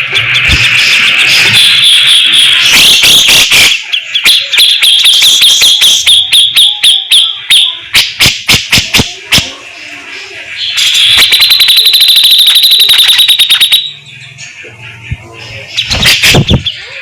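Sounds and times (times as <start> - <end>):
bird chattering song: 0.0 - 9.6, 10.4 - 17.0.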